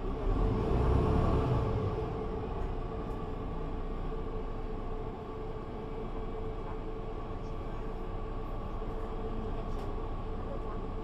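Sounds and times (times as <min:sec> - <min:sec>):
bus engine hum: 0:00.0 - 0:11.0
low road rumble: 0:00.0 - 0:11.0.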